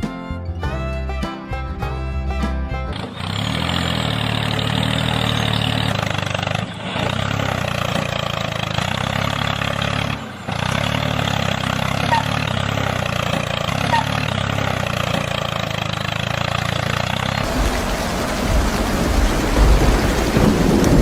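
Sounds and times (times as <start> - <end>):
tractor motor running: 2.4 - 21.0.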